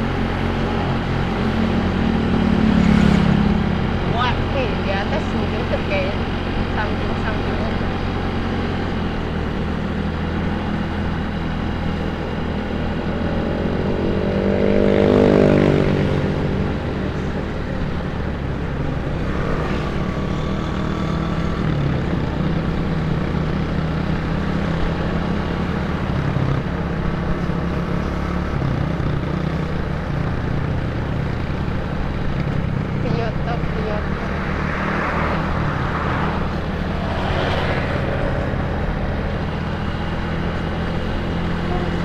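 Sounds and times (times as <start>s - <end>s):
scooter engine cruising: 0.0s - 42.0s.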